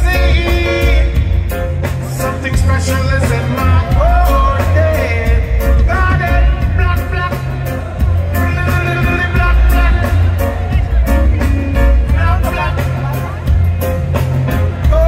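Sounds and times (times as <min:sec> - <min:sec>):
person singing: 0:00.0 - 0:13.6
reggae music over loudspeakers: 0:00.0 - 0:15.0.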